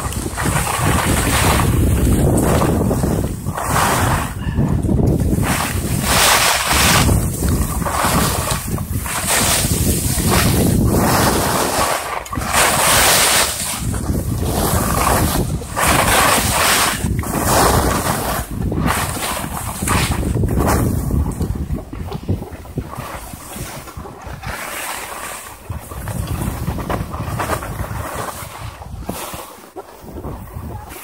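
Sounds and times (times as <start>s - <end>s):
skis scraping on snow: 0.0s - 31.0s
wind rushing over microphone: 0.0s - 31.0s.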